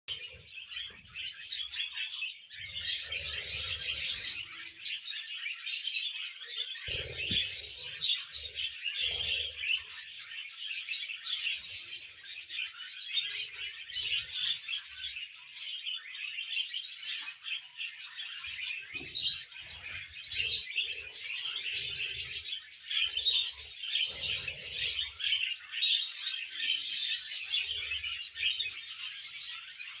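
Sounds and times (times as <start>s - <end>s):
budgies and cockatiels chattering: 0.1s - 30.0s.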